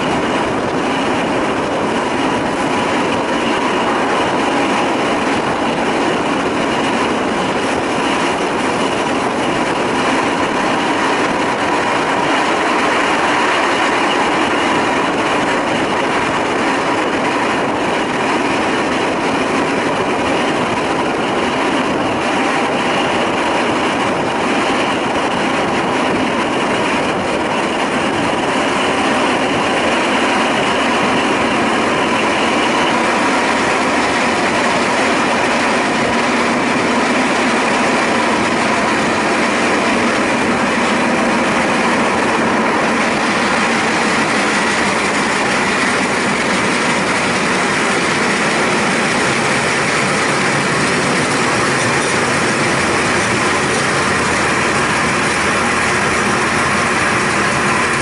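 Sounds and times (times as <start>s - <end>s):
railcar running noise: 0.0s - 58.0s.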